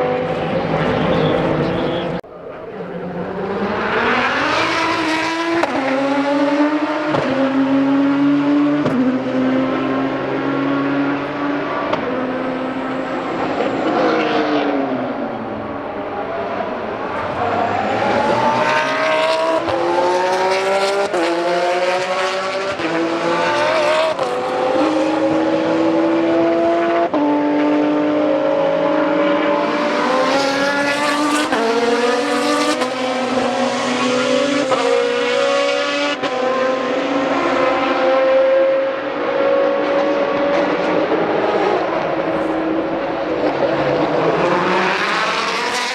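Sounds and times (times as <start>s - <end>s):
race car engine upshifting: 0.0s - 45.9s.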